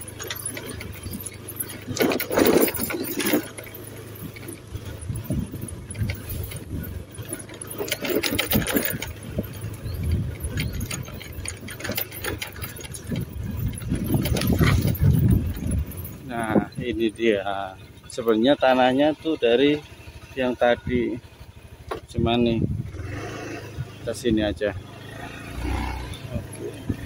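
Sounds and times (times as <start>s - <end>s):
vehicle engine running: 0.0s - 27.0s
vehicle rattles and knocks: 0.0s - 27.0s.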